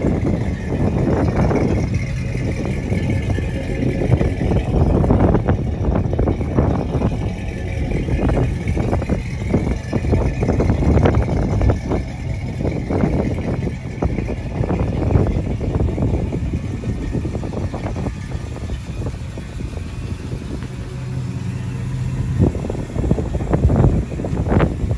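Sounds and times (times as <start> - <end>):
engine idling with uneven exhaust: 0.0 - 24.9.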